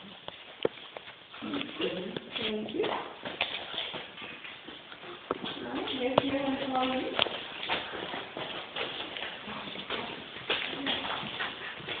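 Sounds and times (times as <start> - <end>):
footsteps of people walking: 0.0 - 12.0.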